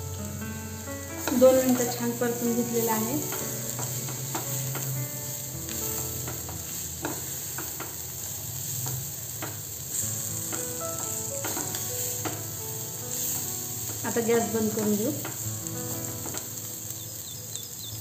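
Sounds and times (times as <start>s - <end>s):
corn sizzling in hot oil: 0.0s - 18.0s.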